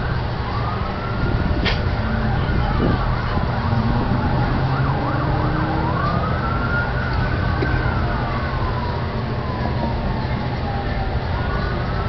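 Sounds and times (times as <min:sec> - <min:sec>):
emergency vehicle siren: 0:00.0 - 0:12.0
road traffic rumble: 0:00.0 - 0:12.0.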